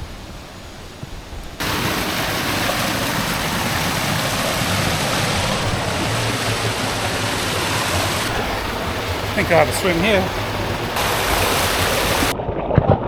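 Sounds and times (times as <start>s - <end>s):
waterfall rushing water: 0.0s - 12.4s.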